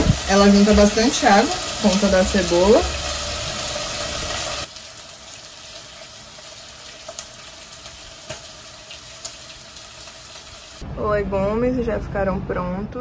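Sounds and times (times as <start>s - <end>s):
chicken sizzling in a hot pan: 0.0s - 10.8s
faint kitchen background: 0.0s - 13.0s.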